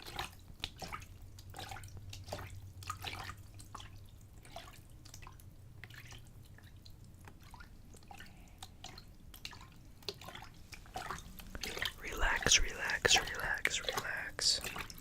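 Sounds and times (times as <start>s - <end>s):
water splashing in a container: 0.0s - 15.0s.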